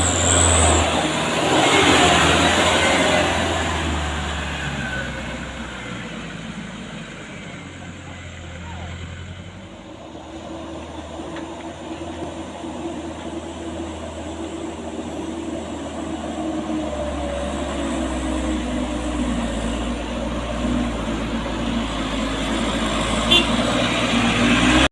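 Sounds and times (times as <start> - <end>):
heavy truck engine under load: 0.0 - 24.9.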